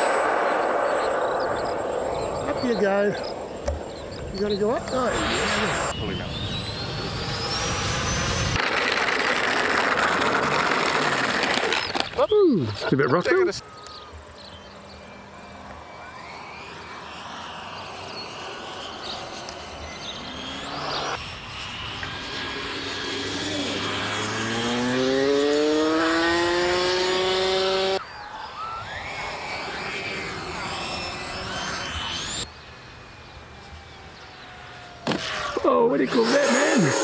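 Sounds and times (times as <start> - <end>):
model aircraft engine: 0.0 - 37.0.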